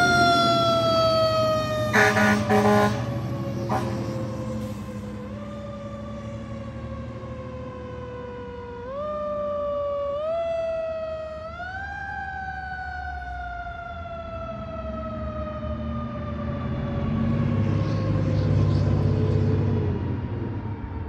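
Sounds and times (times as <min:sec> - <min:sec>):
fire engine siren: 0:00.0 - 0:21.0.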